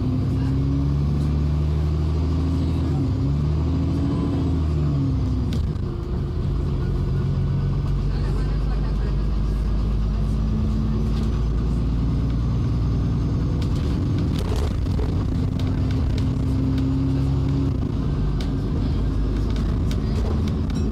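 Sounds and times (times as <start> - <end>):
bus engine droning: 0.0 - 20.9.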